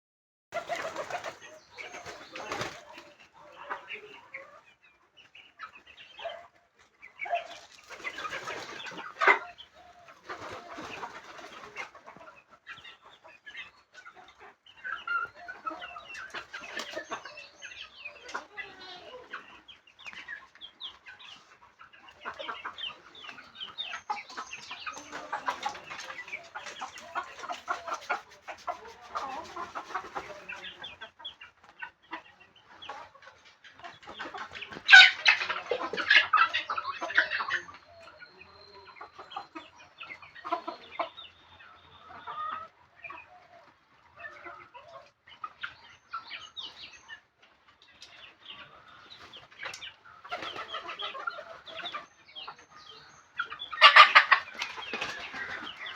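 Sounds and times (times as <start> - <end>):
chickens clucking: 0.5 - 55.9.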